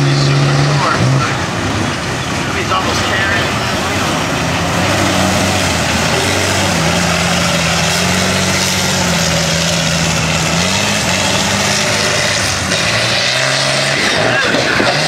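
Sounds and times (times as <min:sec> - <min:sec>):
loud background noise: 0:00.0 - 0:15.0
truck engine running: 0:00.0 - 0:15.0.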